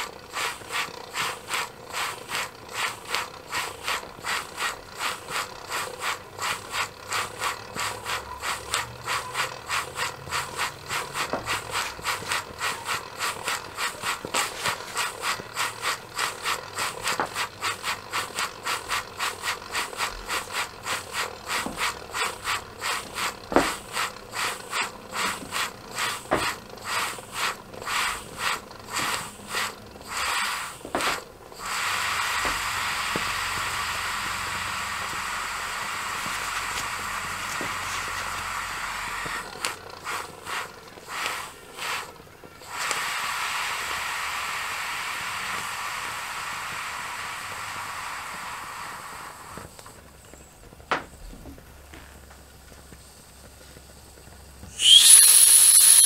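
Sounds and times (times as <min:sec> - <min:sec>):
steam hissing: 0:00.0 - 0:50.6, 0:52.8 - 0:56.0
model steam engine chuffing: 0:00.0 - 0:50.8, 0:52.4 - 0:56.0.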